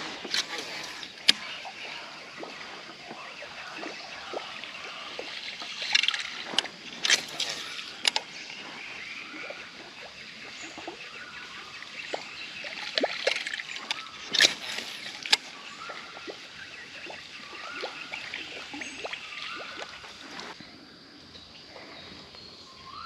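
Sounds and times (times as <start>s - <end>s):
water sloshing around kayak: 0.0s - 20.6s.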